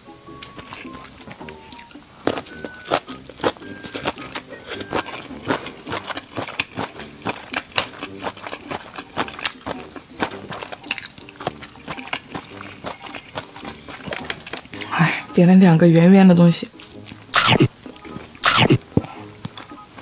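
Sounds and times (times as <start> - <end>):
chewing noodles crunchily: 0.4 - 15.3, 16.7 - 19.8.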